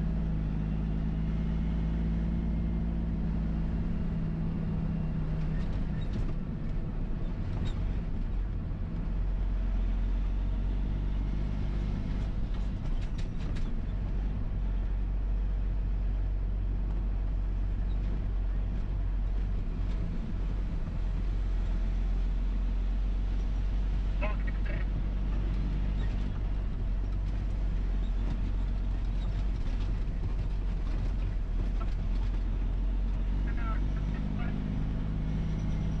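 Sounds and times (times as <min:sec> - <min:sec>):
truck diesel engine droning: 0:00.0 - 0:36.0.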